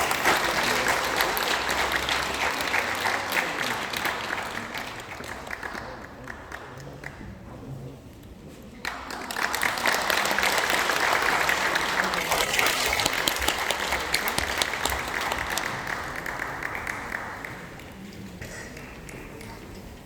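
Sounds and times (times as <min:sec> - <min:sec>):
audience applauding: 0:00.0 - 0:07.2, 0:08.8 - 0:18.1.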